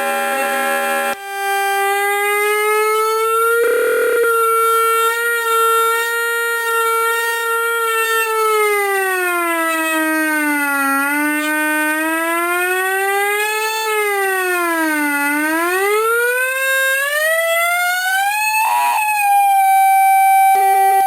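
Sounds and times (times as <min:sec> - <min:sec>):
siren-like oscillator tone: 0:00.0 - 0:17.1, 0:17.7 - 0:21.0.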